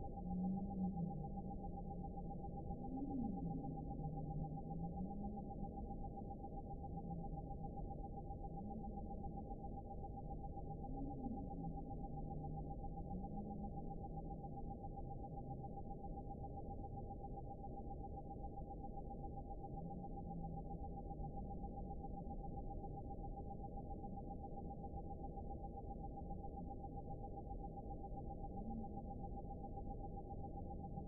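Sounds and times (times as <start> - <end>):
faint low wavering tones: 0.0 - 31.0.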